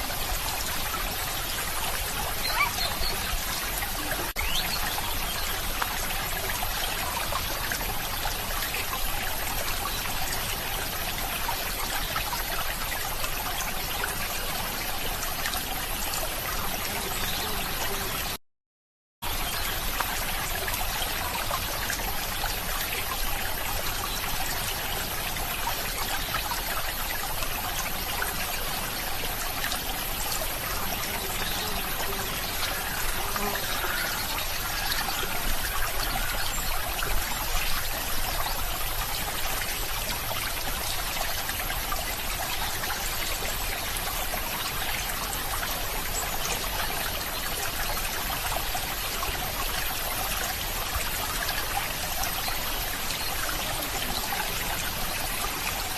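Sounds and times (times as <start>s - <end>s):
stream water trickling: 0.0s - 18.4s, 19.2s - 55.9s.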